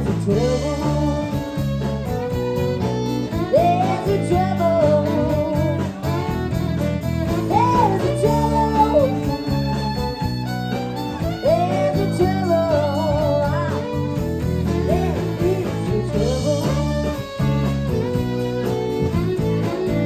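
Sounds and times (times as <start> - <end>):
fiddle: 0.0 - 20.0
live country band: 0.0 - 20.0.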